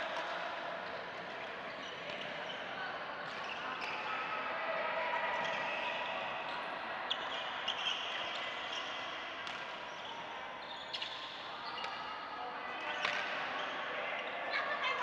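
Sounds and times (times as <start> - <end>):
background noise of play: 0.0 - 15.0.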